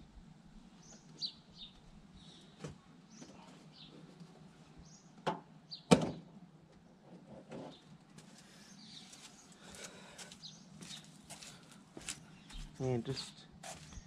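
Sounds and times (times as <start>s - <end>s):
birds chirping: 0.7s - 6.3s, 7.7s - 14.0s.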